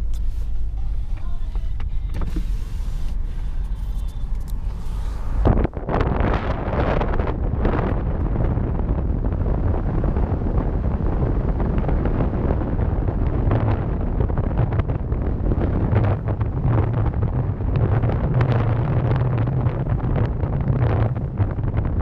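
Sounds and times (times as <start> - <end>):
moving car rumble: 0.0 - 22.0
wind buffeting microphone: 2.2 - 22.0.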